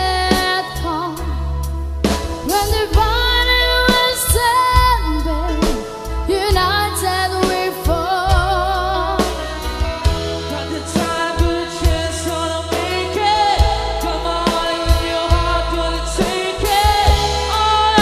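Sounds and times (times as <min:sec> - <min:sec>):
lead vocal with vibrato: 0:00.0 - 0:18.0
rock power ballad: 0:00.0 - 0:18.0.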